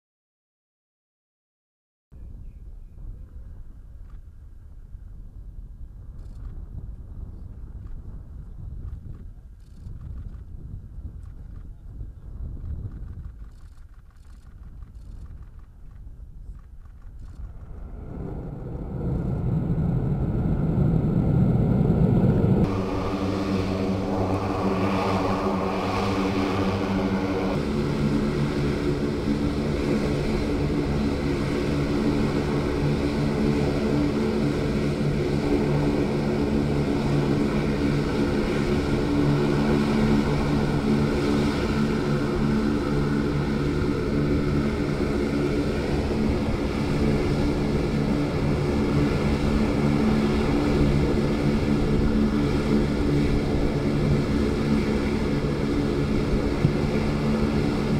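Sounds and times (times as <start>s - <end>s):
propeller aircraft engines droning: 2.8s - 57.9s.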